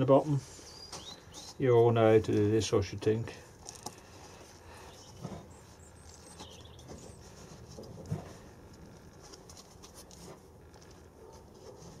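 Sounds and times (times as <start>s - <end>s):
compost rustling in plastic pot: 0.0s - 12.0s.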